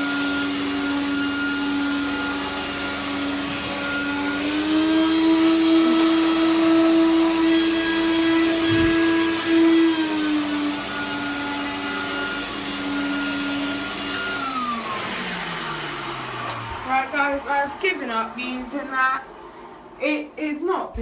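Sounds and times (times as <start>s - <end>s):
vacuum cleaner motor whine: 0.0s - 20.5s.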